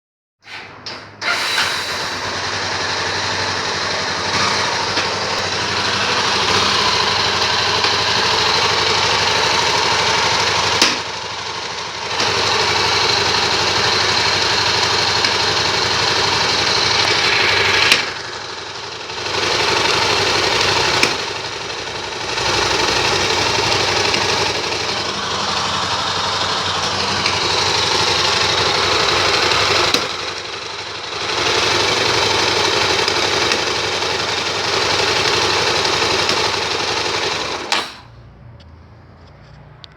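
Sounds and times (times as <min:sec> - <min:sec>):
engine click: 0:00.6 - 0:39.9
motorcycle engine idling: 0:02.0 - 0:38.3.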